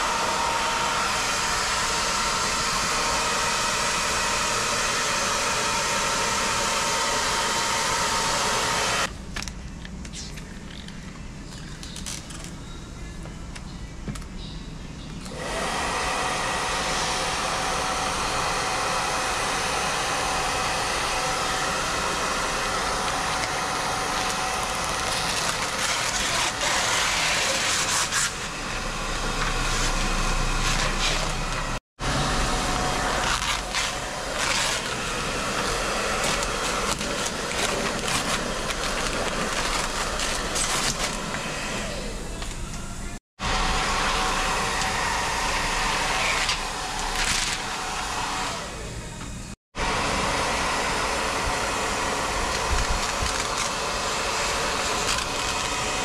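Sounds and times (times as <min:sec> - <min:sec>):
power tool cutting wood: 0:00.0 - 0:09.1, 0:15.3 - 0:42.6, 0:43.4 - 0:49.0, 0:49.8 - 0:56.0.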